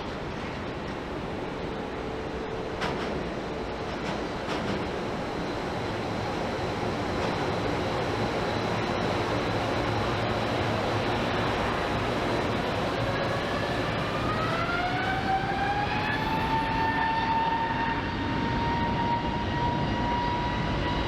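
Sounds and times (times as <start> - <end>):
jet airliner engines roaring: 0.0 - 21.0.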